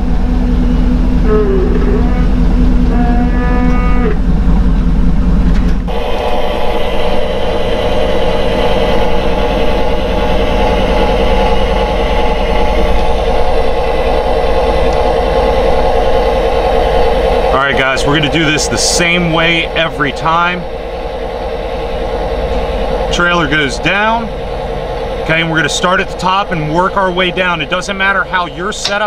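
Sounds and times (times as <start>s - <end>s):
motor running: 0.0s - 29.0s.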